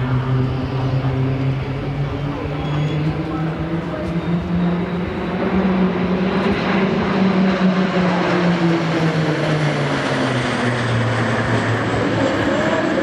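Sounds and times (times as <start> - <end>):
propeller planes flying past: 0.0 - 13.0.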